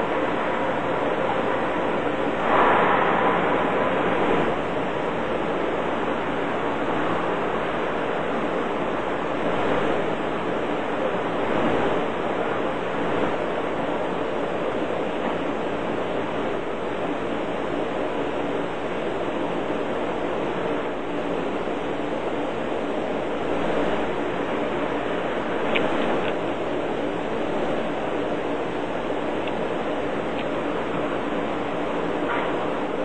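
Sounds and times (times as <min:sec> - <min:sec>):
steady rushing noise: 0:00.0 - 0:33.0.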